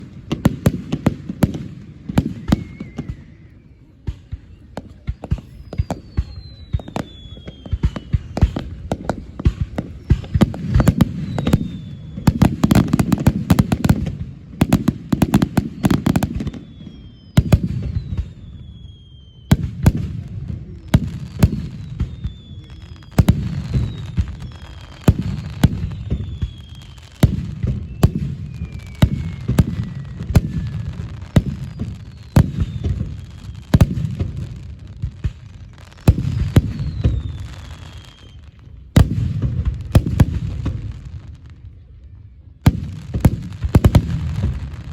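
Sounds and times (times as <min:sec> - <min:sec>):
falling firework whistles: 0:00.0 - 0:41.6, 0:42.6 - 0:44.9
fireworks bangs and crackles: 0:00.0 - 0:44.9.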